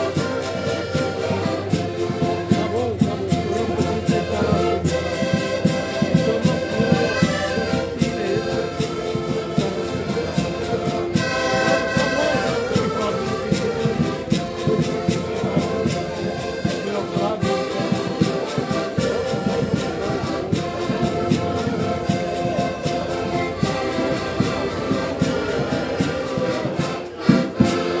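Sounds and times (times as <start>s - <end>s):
accordions playing folk music: 0.0s - 28.0s.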